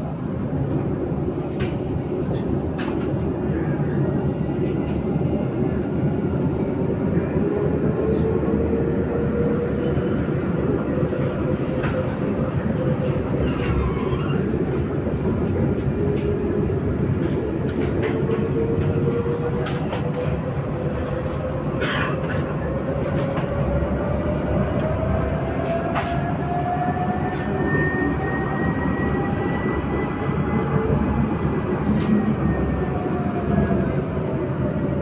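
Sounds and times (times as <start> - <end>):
rising whine of tram motor: 0.0 - 35.0
tram wheels rumbling on rails: 0.0 - 35.0.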